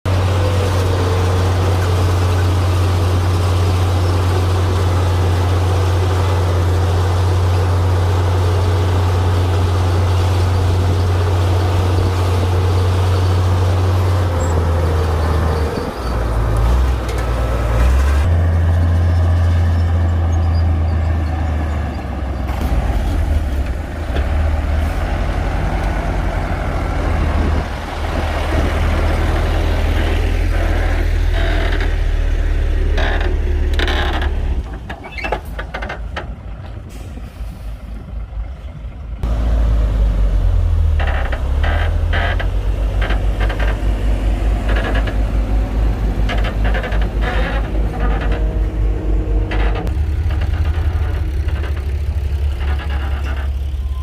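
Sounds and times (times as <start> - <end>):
bulldozer diesel engine drone: 0.1 - 54.0.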